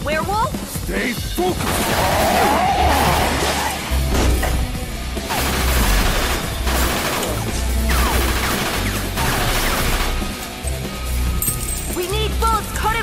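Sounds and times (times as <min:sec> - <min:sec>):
dramatic action music: 0:00.0 - 0:13.0.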